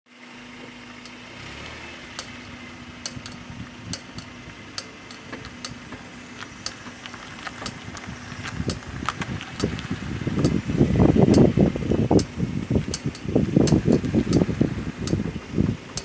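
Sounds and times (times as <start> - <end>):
car engine humming: 0.1 - 16.0
sharp clicking from car: 2.1 - 16.0.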